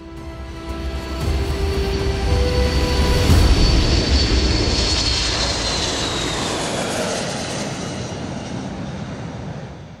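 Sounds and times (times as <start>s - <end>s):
jet engines roaring on takeoff: 0.0s - 10.0s.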